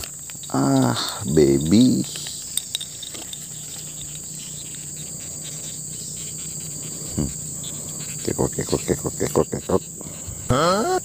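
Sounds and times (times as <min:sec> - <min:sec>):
catfish croaking: 0:00.0 - 0:11.0
insects trilling: 0:00.0 - 0:11.0.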